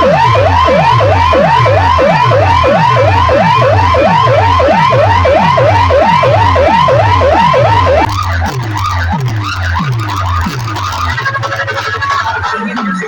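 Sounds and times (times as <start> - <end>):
heavy bass: 0.0 - 13.0
wailing siren-like effect: 0.0 - 13.0.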